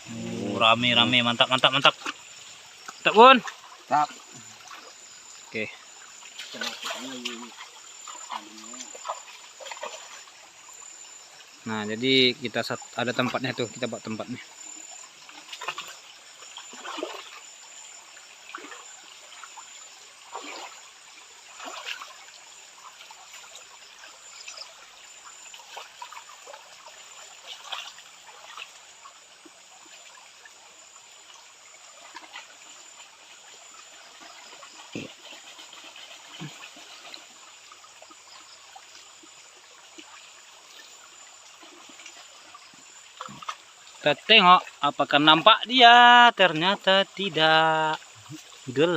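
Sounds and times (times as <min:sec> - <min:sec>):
light water splashes: 0:00.0 - 0:48.9
shallow water trickling: 0:00.0 - 0:48.9.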